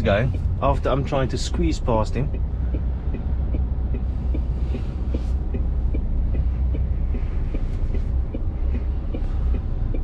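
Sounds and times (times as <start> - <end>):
diesel engine running: 0.0 - 10.0
light repeating tick: 0.1 - 10.0.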